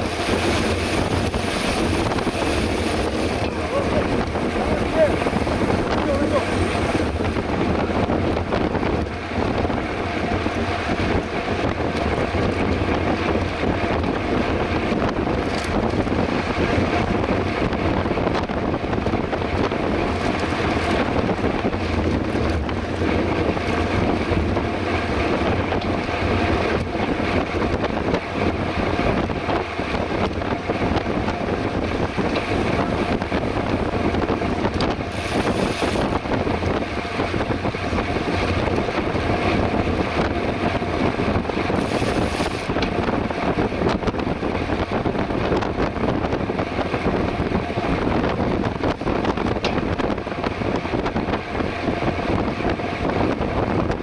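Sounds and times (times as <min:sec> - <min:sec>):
bike tyre road noise: 0:00.0 - 0:54.0
wind buffeting microphone: 0:00.0 - 0:54.0.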